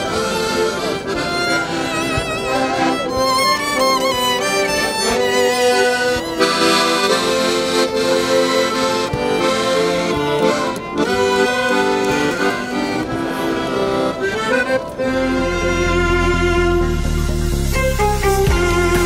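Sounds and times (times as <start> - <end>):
accordion playing chords: 0.0 - 19.0
violins: 0.0 - 19.0.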